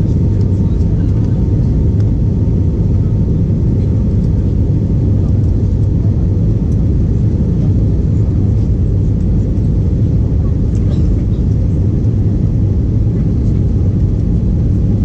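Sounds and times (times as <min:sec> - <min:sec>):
airliner cabin engine noise: 0:00.0 - 0:15.0.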